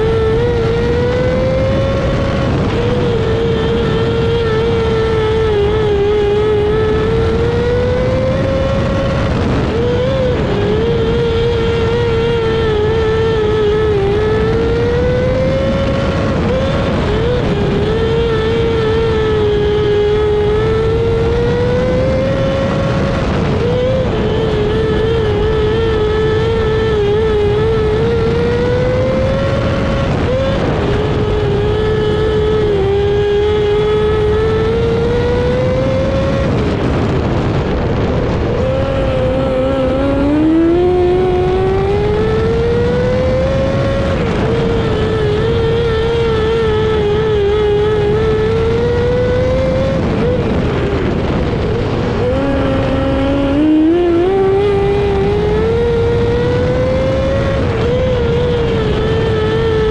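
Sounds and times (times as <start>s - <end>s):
racing motorcycle engine: 0.0s - 59.9s
wind noise: 0.0s - 59.9s.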